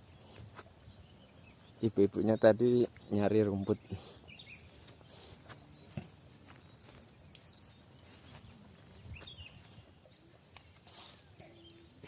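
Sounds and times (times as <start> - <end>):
bird chirps: 0.0 - 12.0
faint outdoor ambience: 0.0 - 12.0.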